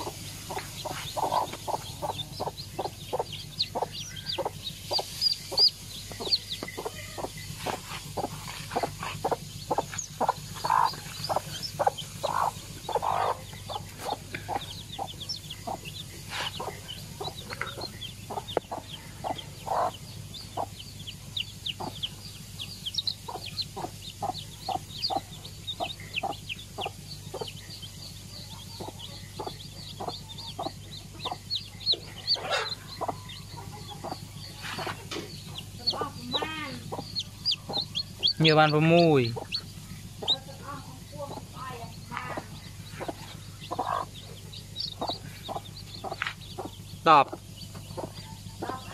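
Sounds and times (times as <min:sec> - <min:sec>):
chicks peeping: 0:00.0 - 0:48.9
hen clucking: 0:00.0 - 0:48.9.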